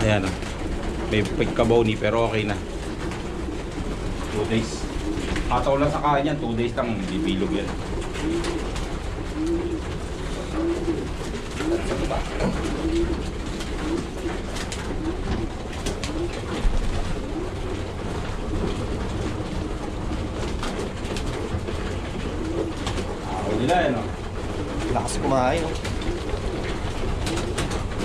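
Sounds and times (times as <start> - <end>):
pigeons cooing: 0.0 - 28.0
wing flaps: 0.0 - 28.0.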